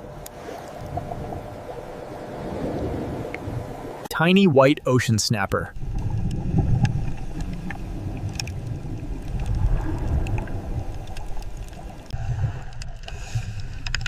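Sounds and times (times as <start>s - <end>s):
underwater rumble of moving water: 0.0s - 4.1s, 4.7s - 14.0s.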